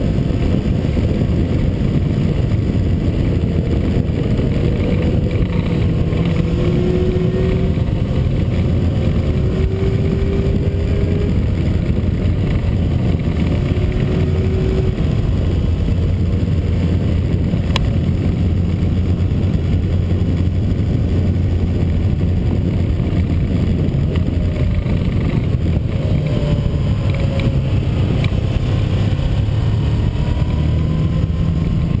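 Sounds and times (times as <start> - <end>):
motorcycles passing: 0.0 - 32.0
steady low rumble: 0.0 - 32.0.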